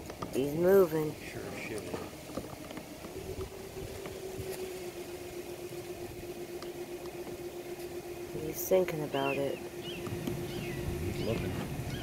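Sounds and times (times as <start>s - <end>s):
low rumbling background: 0.0s - 12.0s
motor humming: 0.0s - 12.0s.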